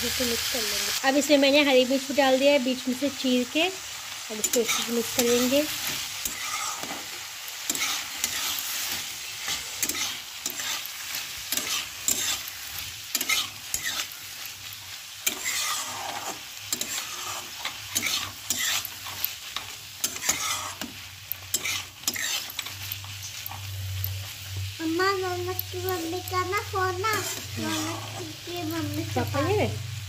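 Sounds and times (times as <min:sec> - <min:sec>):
vegetables sizzling in hot oil: 0:00.0 - 0:30.0
metal spatula scraping a pan: 0:04.4 - 0:24.3, 0:25.5 - 0:29.8.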